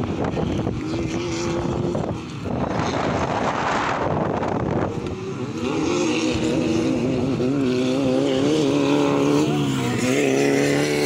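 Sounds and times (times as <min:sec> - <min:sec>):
race buggy engines: 0:00.0 - 0:11.0.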